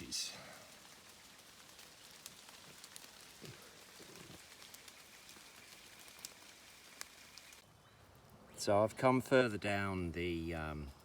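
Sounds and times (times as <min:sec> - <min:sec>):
soft steady hiss: 0:00.0 - 0:11.0.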